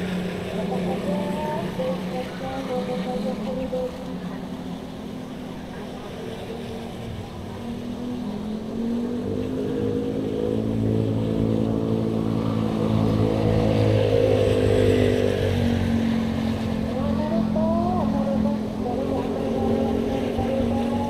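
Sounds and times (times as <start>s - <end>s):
motor engine approaching: 0.0s - 21.0s.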